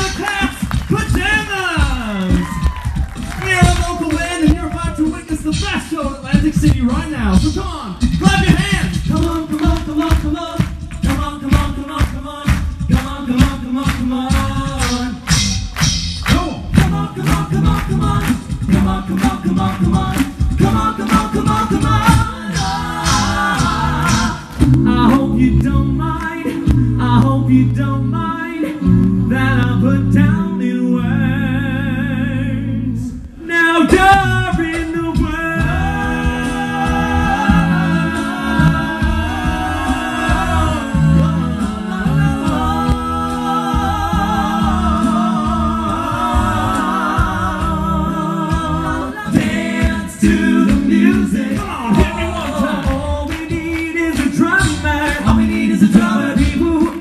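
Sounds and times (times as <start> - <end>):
sung bass line: 0.0 - 57.0
male a cappella group singing: 8.4 - 15.4, 16.5 - 57.0.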